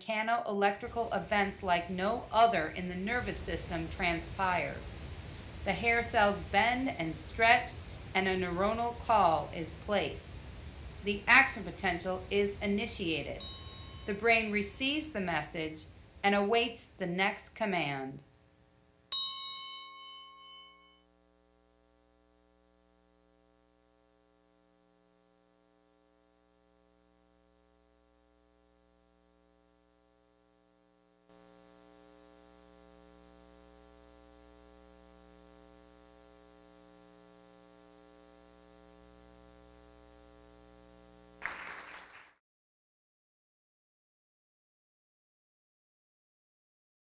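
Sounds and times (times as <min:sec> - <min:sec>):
faint electrical hum: 0:00.0 - 0:19.2, 0:20.3 - 0:42.3.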